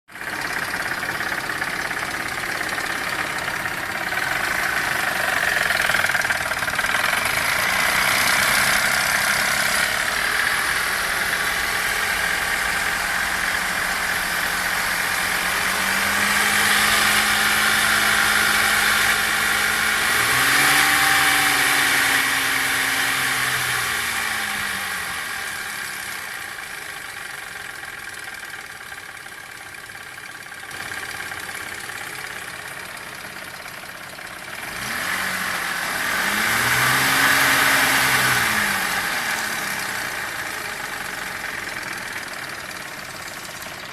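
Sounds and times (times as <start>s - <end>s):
car engine running: 0.1s - 43.9s
engine knocking: 0.1s - 43.9s.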